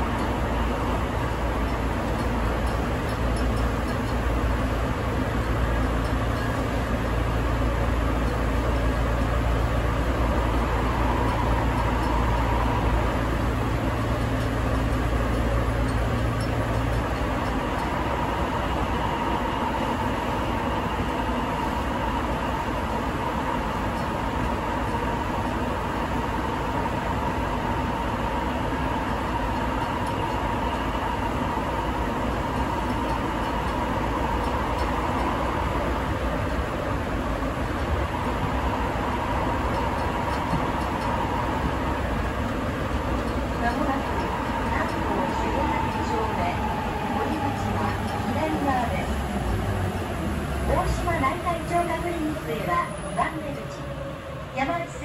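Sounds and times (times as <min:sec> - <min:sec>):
subway train low rumble: 0:00.0 - 0:55.0.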